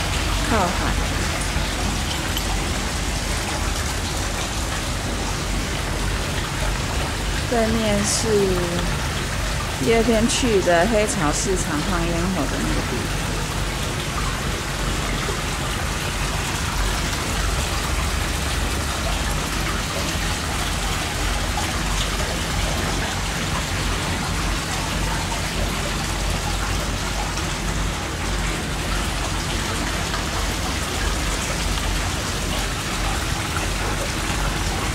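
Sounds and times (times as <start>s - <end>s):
water pouring and splashing: 0.0s - 34.9s.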